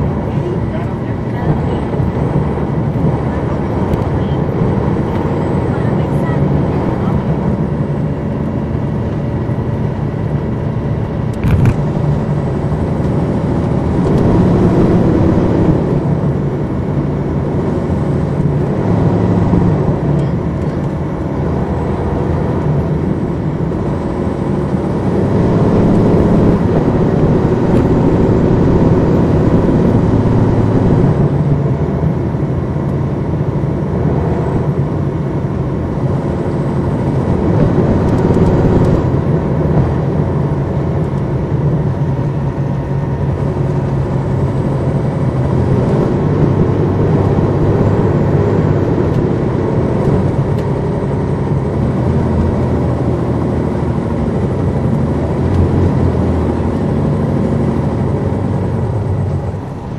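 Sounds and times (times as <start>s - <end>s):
bus diesel engine driving: 0.0s - 59.9s.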